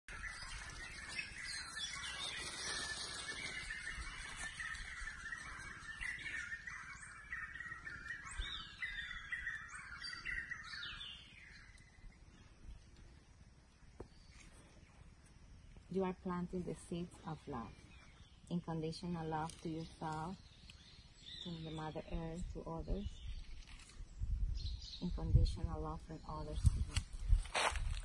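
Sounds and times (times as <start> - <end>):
birds chirping and calling: 0.1 - 13.2, 16.0 - 27.9
high background bird chorus: 0.1 - 28.0.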